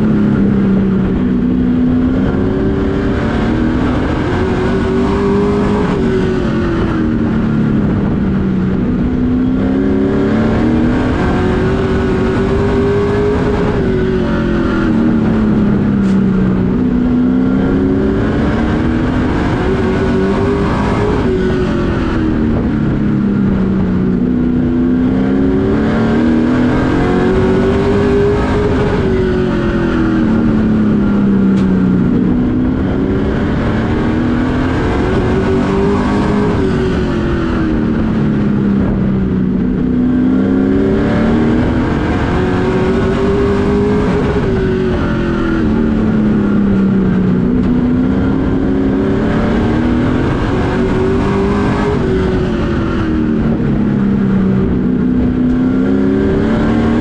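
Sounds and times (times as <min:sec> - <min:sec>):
race truck engine revving: 0:00.0 - 0:57.0.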